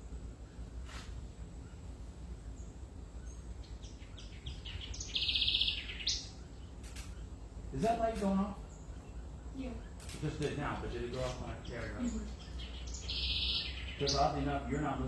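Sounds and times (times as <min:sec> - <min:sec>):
low background rumble: 0:00.0 - 0:15.0
bird chirping and trilling: 0:01.6 - 0:15.0.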